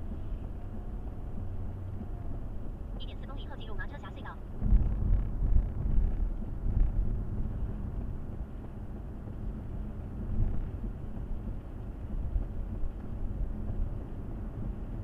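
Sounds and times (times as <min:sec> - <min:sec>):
car tyres and engine rumble: 0:00.0 - 0:15.0.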